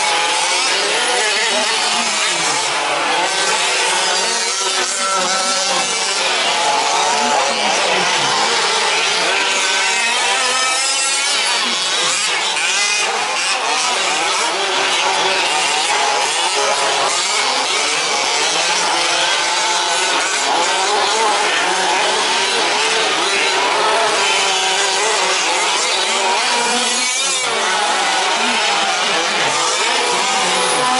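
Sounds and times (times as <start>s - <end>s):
small two-stroke engines revving: 0.0s - 30.9s.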